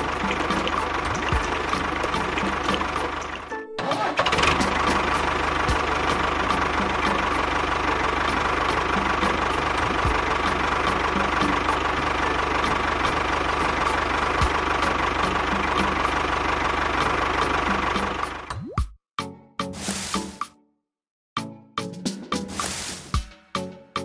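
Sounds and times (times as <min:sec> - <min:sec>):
tractor engine running: 0:00.0 - 0:18.5, 0:19.8 - 0:20.5, 0:22.5 - 0:23.2.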